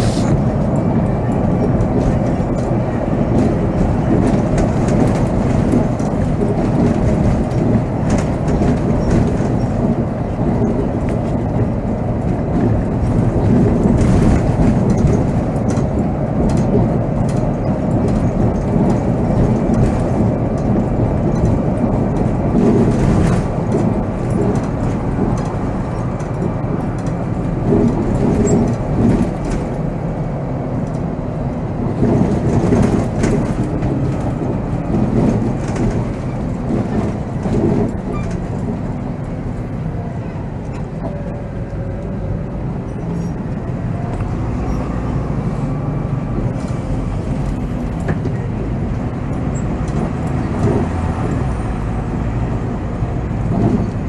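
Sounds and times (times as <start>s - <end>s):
bus engine and road rumble: 0.0s - 54.0s
bodywork rattles and knocks: 0.3s - 54.0s.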